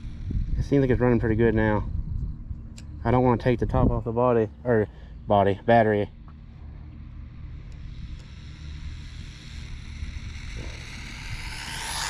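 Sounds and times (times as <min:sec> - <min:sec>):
electric motor whine: 0:00.0 - 0:04.5, 0:05.2 - 0:12.0
wind: 0:00.0 - 0:12.0.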